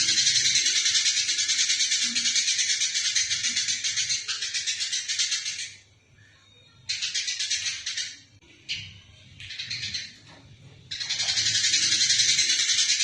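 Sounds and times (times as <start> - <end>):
sparrows chattering: 0.0 - 5.8, 6.9 - 13.0.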